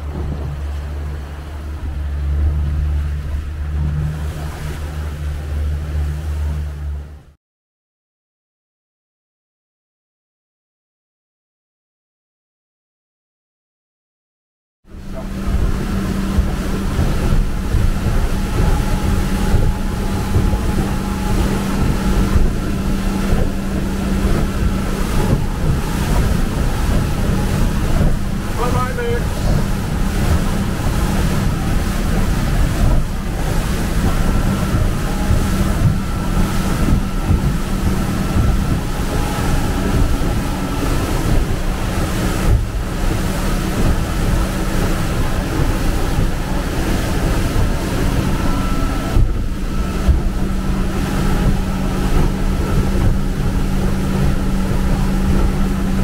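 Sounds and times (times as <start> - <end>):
wind buffeting microphone: 0.0 - 7.1, 14.9 - 56.0
motorboat engine hum: 0.0 - 7.4, 14.9 - 56.0
water rushing against hull: 0.0 - 7.4, 14.9 - 56.0.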